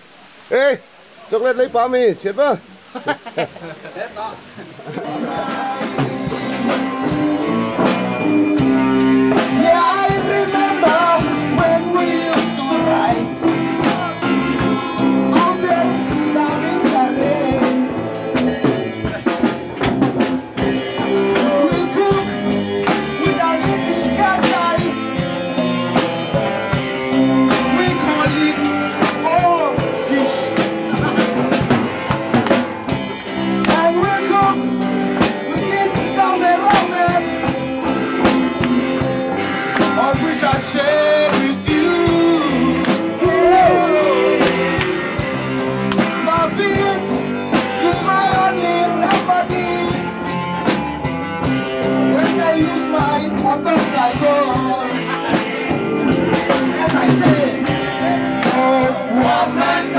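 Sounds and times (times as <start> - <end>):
music with drums and guitar: 4.8 - 59.9.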